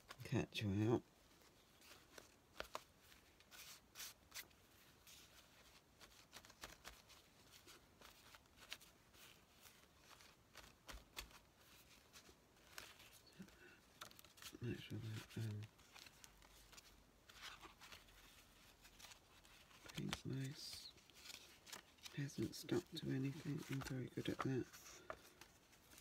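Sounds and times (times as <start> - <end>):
paper rustling: 1.3 - 26.0.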